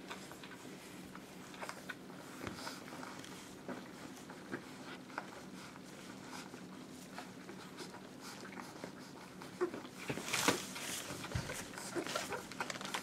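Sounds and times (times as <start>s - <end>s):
faint low room hum: 0.0s - 13.0s
puppies suckling clicks and smacks: 0.0s - 13.0s.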